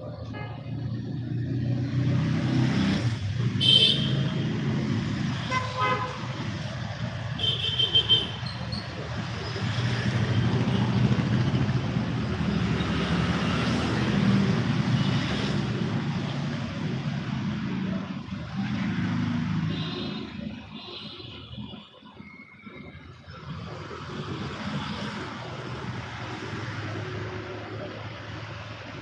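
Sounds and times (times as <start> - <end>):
vehicle passing on street: 0.0 - 7.4, 8.0 - 20.6, 22.2 - 29.0.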